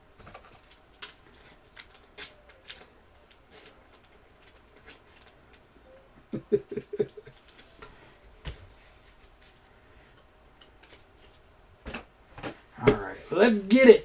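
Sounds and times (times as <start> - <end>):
trading cards clicking and rustling: 0.1 - 5.9, 6.6 - 9.8, 10.4 - 14.0.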